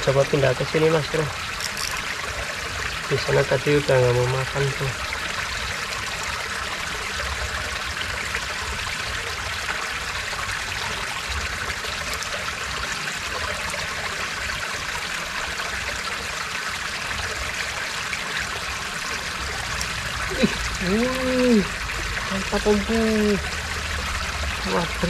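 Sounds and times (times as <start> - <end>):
water spilling down a small dam: 0.0 - 25.0.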